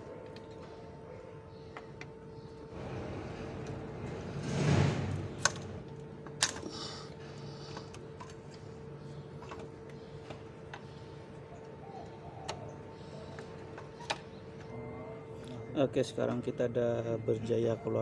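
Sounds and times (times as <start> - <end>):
steady faint hum: 0.0 - 18.0.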